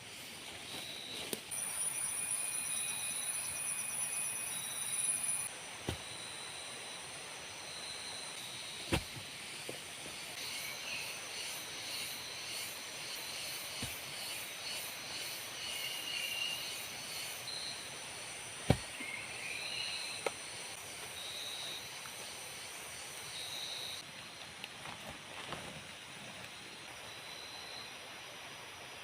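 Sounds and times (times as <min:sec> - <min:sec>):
insects trilling: 0:00.7 - 0:24.0.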